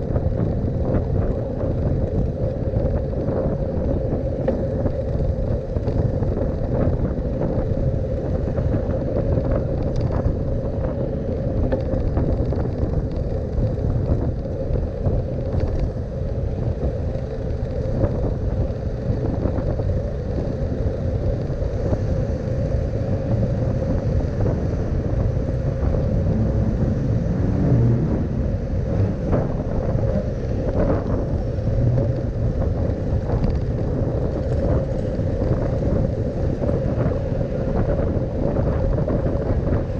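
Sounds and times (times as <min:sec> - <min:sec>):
small rattles and ticks: 0:00.0 - 0:27.2, 0:28.7 - 0:39.9
bicycle road and wind noise: 0:00.0 - 0:39.9
steady hum: 0:00.0 - 0:39.9.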